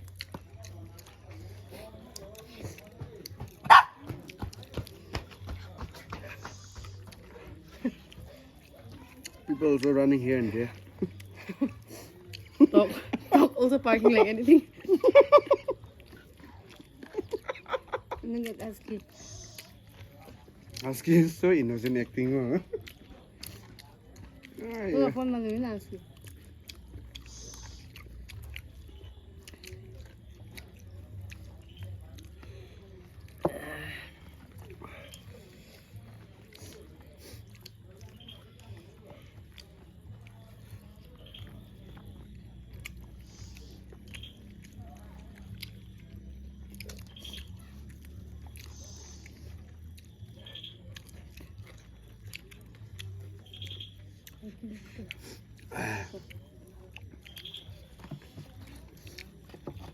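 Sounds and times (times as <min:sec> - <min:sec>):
mouth clicks and smacks chewing: 0:00.0 - 0:59.9.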